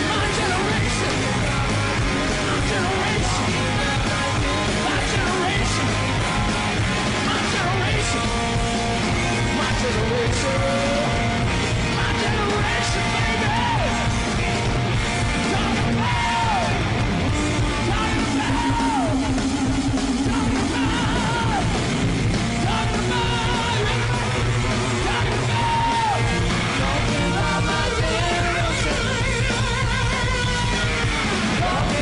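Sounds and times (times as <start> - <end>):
bass guitar: 0.0 - 32.0
distorted electric guitar solo: 0.0 - 32.0
drums: 0.0 - 32.0.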